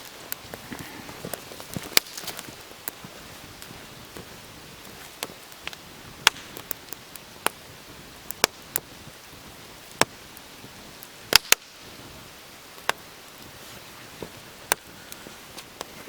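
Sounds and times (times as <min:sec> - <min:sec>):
campfire crackling and popping: 0:00.0 - 0:16.0
fire hissing: 0:00.0 - 0:16.0.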